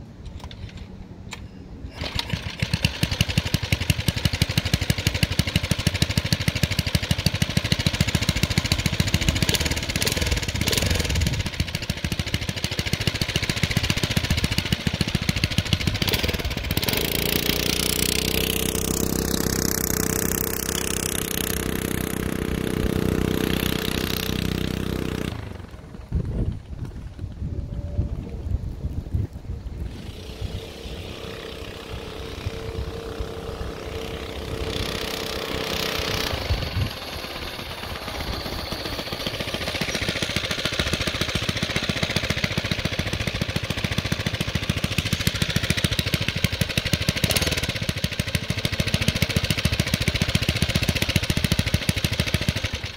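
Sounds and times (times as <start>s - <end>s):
mini bike engine running: 1.9s - 29.0s, 29.8s - 52.9s.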